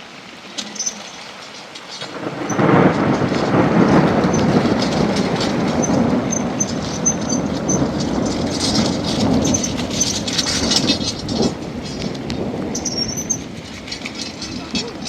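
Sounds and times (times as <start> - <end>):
rain: 0.0 - 15.0
thunder rumble: 1.8 - 15.0.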